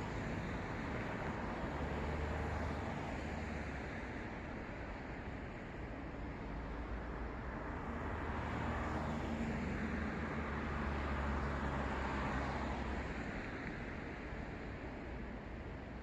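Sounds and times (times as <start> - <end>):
steady traffic noise: 0.0 - 16.0.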